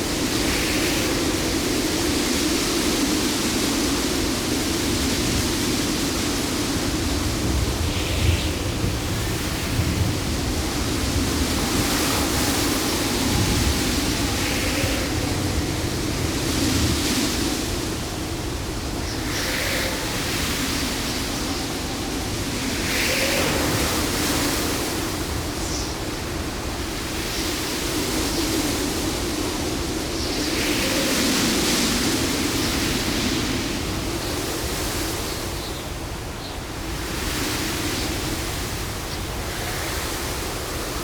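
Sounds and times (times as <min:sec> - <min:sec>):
waves breaking: 0:00.0 - 0:36.2
surf: 0:00.0 - 0:41.0
wind: 0:00.0 - 0:41.0.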